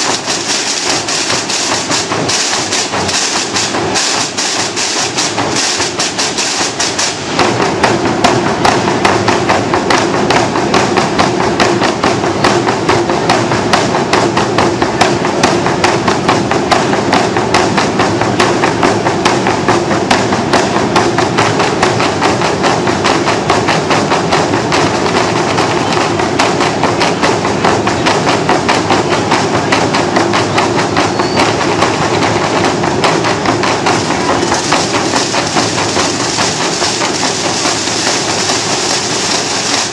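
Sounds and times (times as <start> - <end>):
bass and snare drums playing: 0.0 - 39.9.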